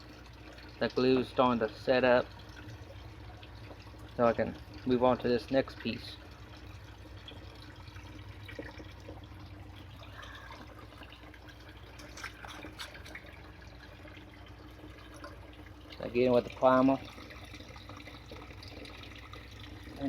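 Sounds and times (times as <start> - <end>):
low steady hum: 0.0 - 20.0
water trickling: 0.0 - 20.0.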